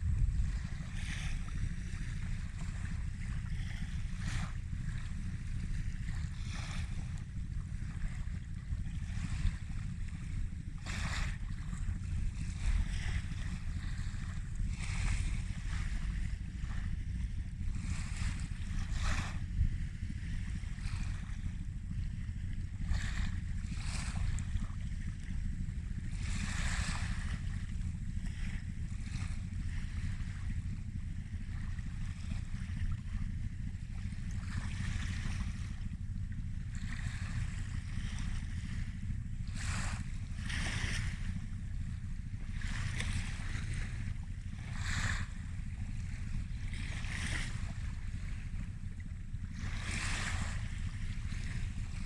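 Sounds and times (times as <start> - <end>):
small waves washing on shore: 0.0 - 52.0
wind rumble on microphone: 0.0 - 52.0.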